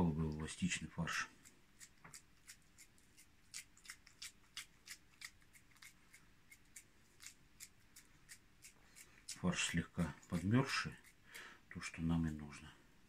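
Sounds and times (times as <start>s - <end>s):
wet hands squeezing meat: 0.2s - 11.4s.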